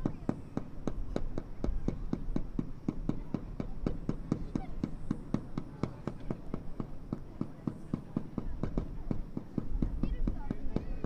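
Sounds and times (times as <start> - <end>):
distant fireworks bangs: 0.0 - 11.0.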